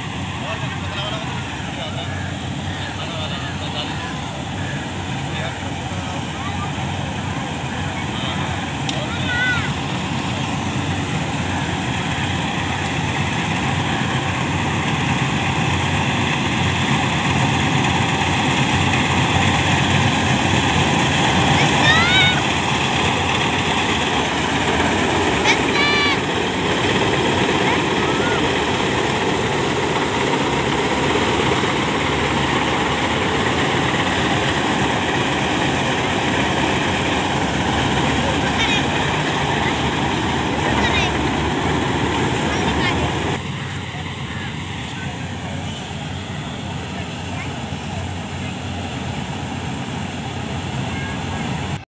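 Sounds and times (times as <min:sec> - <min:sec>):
combine harvester droning: 0:00.0 - 0:51.9
diesel engine running: 0:00.0 - 0:51.9.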